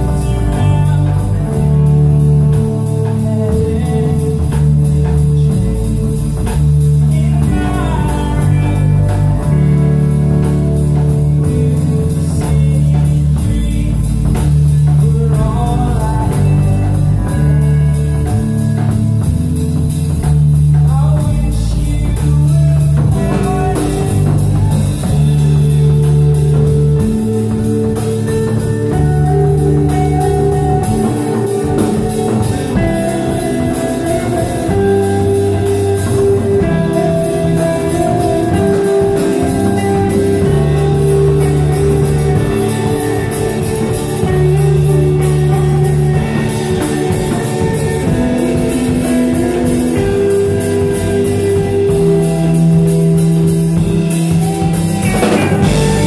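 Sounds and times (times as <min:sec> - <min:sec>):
drums: 0:00.0 - 0:56.0
electric guitar: 0:00.0 - 0:56.0
held bass notes: 0:00.0 - 0:56.0.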